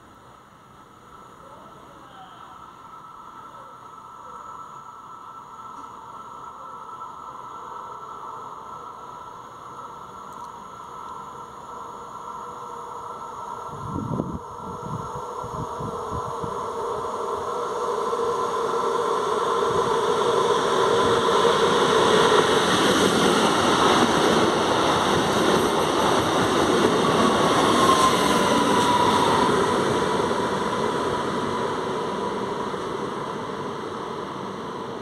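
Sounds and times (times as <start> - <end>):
electric train whine: 0.0 - 35.0
train wheels rumbling on rail: 2.6 - 35.0.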